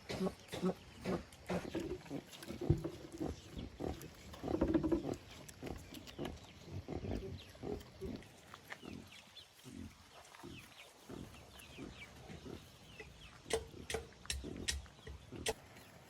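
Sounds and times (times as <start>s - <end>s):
pigs grunting: 0.0s - 16.0s.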